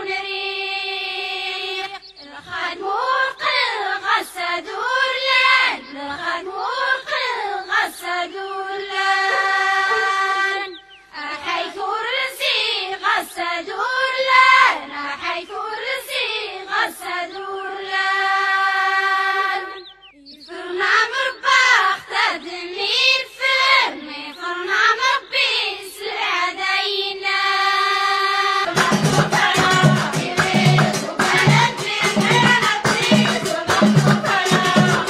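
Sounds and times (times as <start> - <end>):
high voice singing unaccompanied: 0.0 - 35.0.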